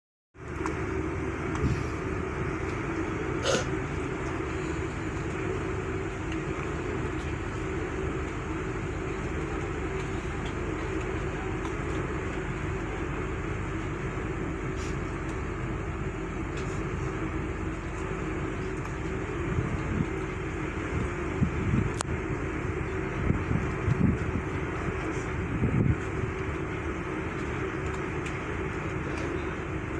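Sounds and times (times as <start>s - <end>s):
machine droning hum: 0.4s - 29.9s.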